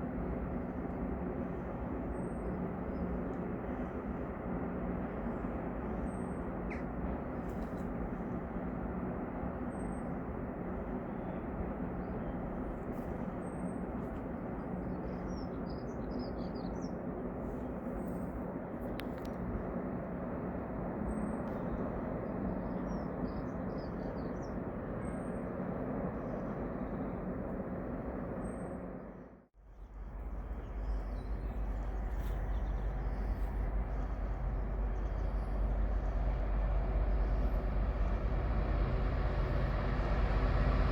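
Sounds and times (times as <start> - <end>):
low rumble with faint hum: 0.0 - 40.9.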